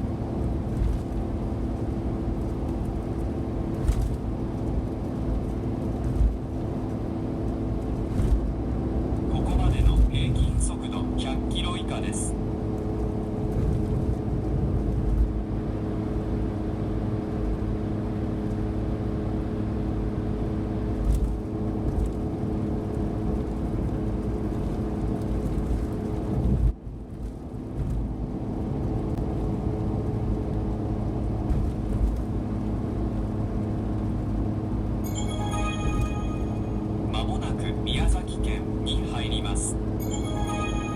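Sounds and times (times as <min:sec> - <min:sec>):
road noise rumble: 0:00.0 - 0:35.4, 0:36.4 - 0:40.2
van engine drone: 0:00.0 - 0:40.9.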